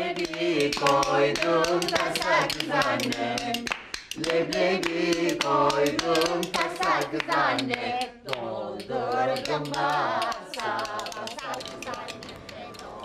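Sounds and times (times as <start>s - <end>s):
hands clapping in time: 0.0s - 13.0s
people singing together: 0.0s - 13.0s.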